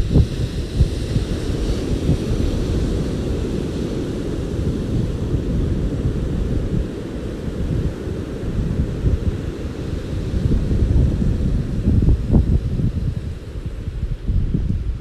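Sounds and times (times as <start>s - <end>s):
hiss of wash: 0.0s - 15.0s
waves rumbling: 0.0s - 15.0s.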